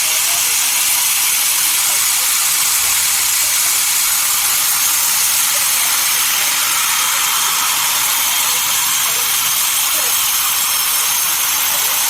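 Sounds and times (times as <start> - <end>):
saw cutting through log: 0.0 - 12.0.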